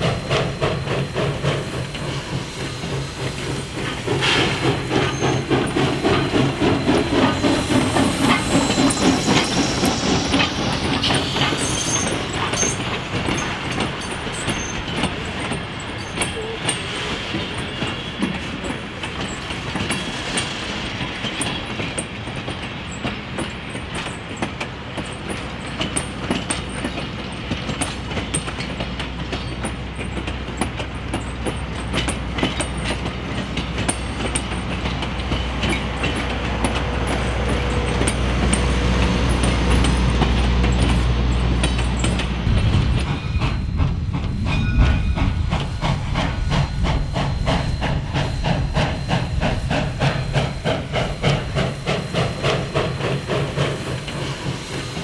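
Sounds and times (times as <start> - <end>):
low train rumble: 0.0 - 55.0
train wheels clicking over rail joints: 0.0 - 55.0.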